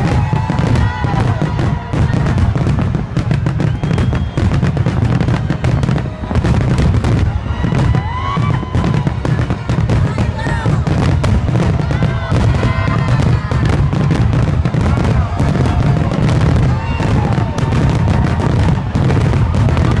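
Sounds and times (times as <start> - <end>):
fireworks booming and crackling: 0.0 - 20.0
rising firework whistles: 0.0 - 20.0.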